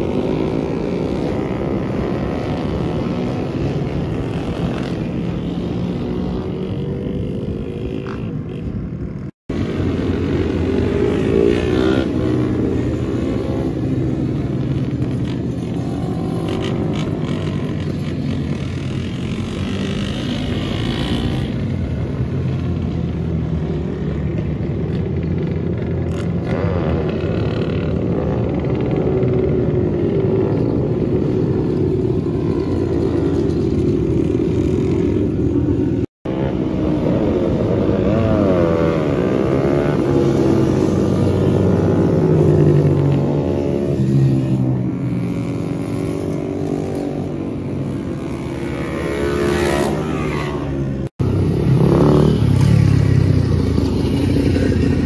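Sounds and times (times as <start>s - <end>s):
minibike engines droning: 0.0s - 55.0s.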